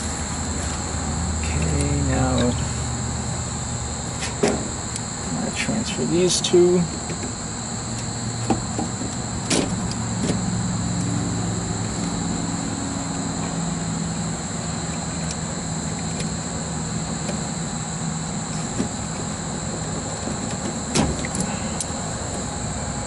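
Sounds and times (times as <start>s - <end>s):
high insect drone: 0.0s - 23.0s
low engine hum: 0.0s - 23.0s.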